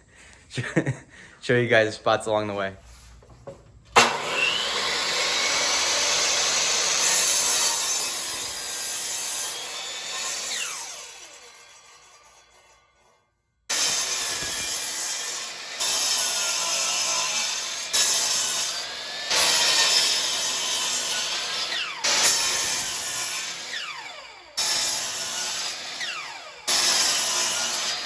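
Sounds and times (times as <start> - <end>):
power saw cutting wood: 3.9 - 28.0.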